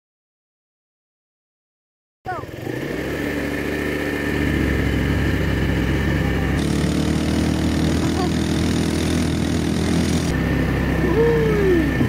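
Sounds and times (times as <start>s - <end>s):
quad bike engine running: 2.3s - 12.0s.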